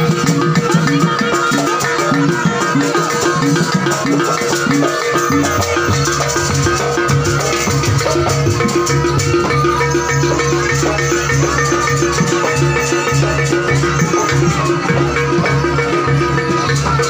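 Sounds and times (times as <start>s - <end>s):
gamelan music: 0.0s - 17.0s
rattling percussion: 0.0s - 17.0s.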